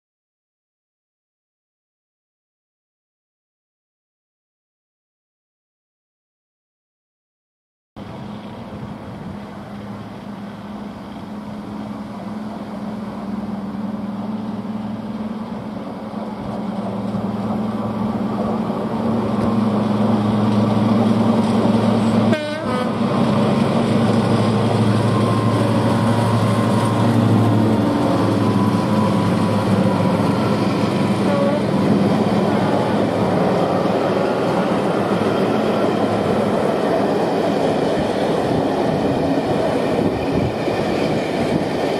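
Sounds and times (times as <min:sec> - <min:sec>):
diesel locomotive engine drone: 0:08.0 - 0:41.9
train coaches running on rails: 0:08.0 - 0:41.9.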